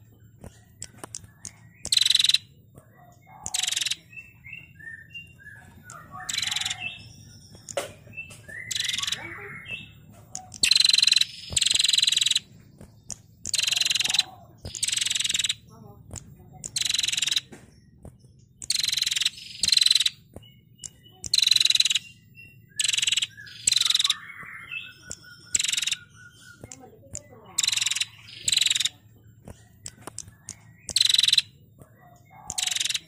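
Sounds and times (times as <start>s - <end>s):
bird singing harsh trills: 0.0s - 33.0s.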